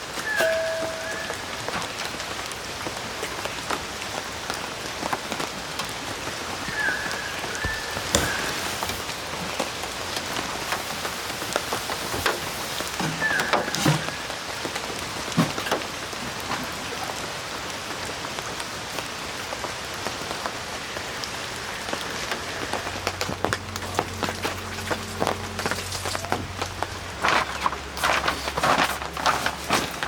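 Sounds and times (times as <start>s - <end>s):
rain drops tapping: 0.0s - 30.0s.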